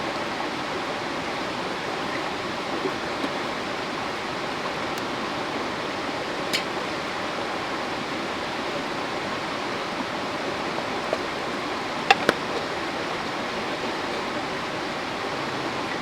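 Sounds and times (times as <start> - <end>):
mountain river flowing: 0.0 - 16.0.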